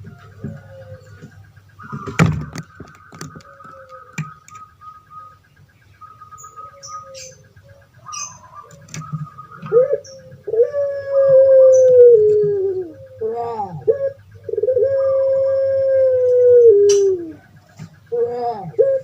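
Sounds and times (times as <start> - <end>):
high bird chirping: 0.0 - 15.8
doves cooing: 0.0 - 19.0.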